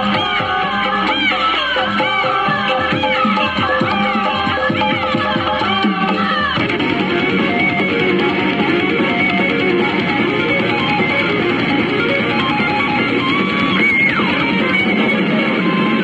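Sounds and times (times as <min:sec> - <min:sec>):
loud electric guitar music: 0:00.0 - 0:16.0.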